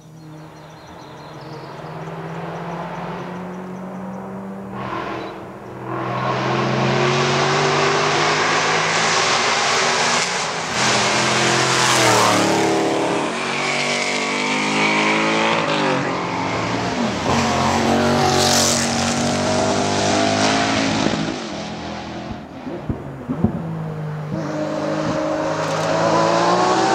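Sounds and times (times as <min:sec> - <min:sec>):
race car engine revving: 0:00.3 - 0:26.9.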